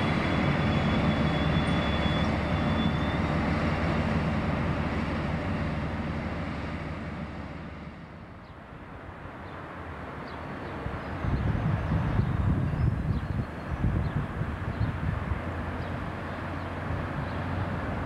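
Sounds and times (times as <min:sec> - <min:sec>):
diesel engine rumble: 0:00.0 - 0:09.1, 0:09.9 - 0:18.0.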